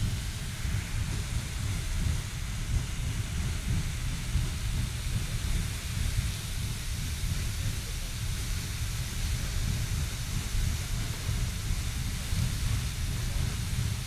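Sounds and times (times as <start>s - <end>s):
geyser water and steam hissing: 0.0s - 14.0s.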